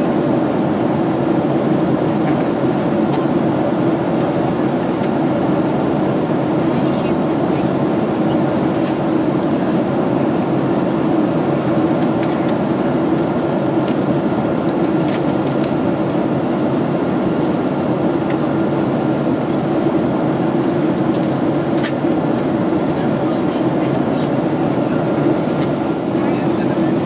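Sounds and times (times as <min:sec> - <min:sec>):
jet engines humming: 0:00.0 - 0:27.0.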